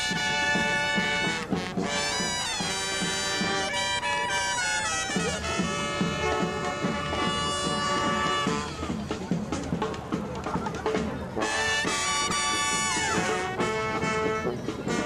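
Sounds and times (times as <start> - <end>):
brass band parade music: 0.0 - 15.0.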